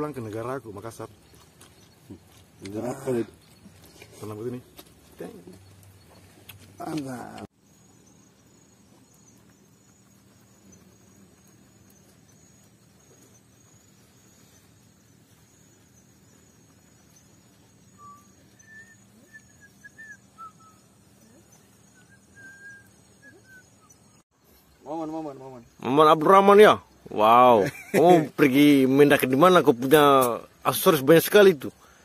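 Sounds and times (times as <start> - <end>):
insect trilling: 0.0 - 32.0.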